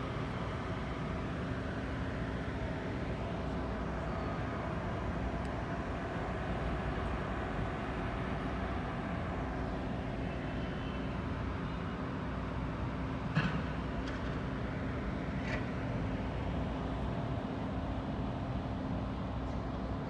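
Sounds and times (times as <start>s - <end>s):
construction machinery rumble: 0.0s - 20.0s.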